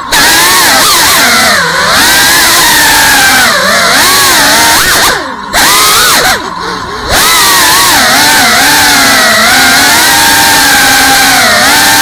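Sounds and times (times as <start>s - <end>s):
drone motors and propellers whining: 0.0s - 12.0s.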